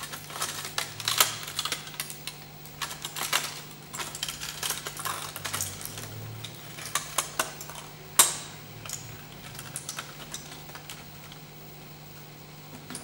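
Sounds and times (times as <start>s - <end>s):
aluminium foil crinkling: 0.0s - 11.4s.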